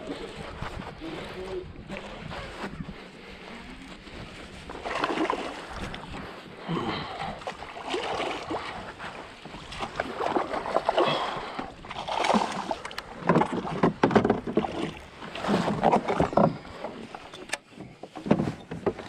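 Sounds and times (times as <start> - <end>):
waves lapping against boat hull: 0.0 - 19.0.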